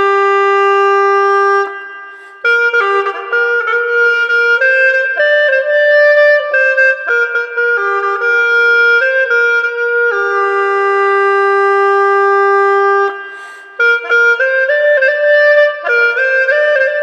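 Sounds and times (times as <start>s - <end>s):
gourd flute melody: 0.0s - 17.0s.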